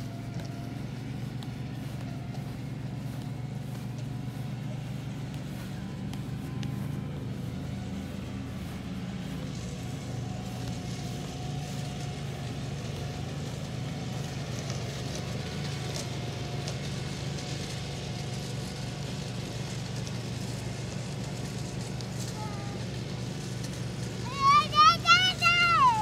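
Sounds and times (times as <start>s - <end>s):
small engine humming: 0.0s - 26.0s.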